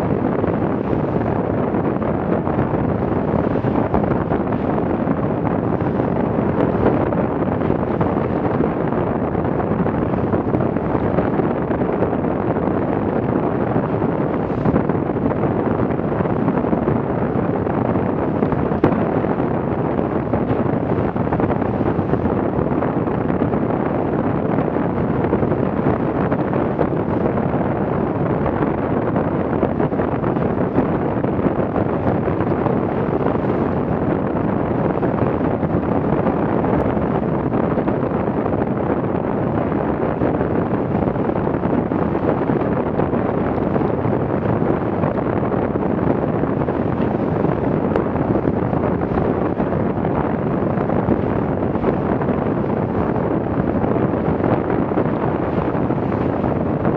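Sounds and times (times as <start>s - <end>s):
water rushing along hulls: 0.0s - 56.9s
wind buffeting microphone: 0.0s - 56.9s.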